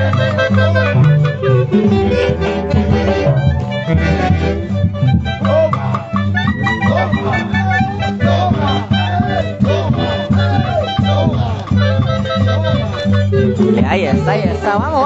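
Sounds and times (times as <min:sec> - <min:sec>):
live dance orchestra: 0:00.0 - 0:15.0
pulsing bass beat: 0:00.0 - 0:15.0.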